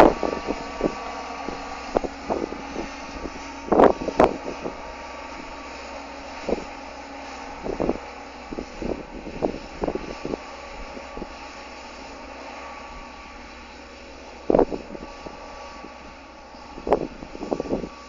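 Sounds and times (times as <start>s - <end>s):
harvesting machinery running: 0.0s - 18.0s.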